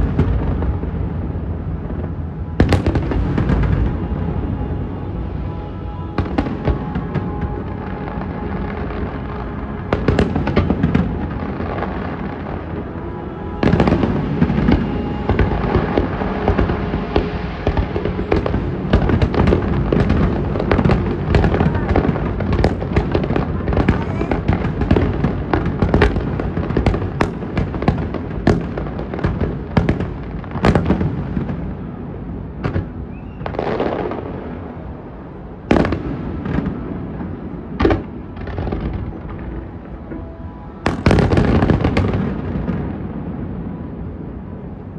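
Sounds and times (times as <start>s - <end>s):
music playing: 0.0s - 44.0s
fireworks bangs and crackles: 0.0s - 44.9s.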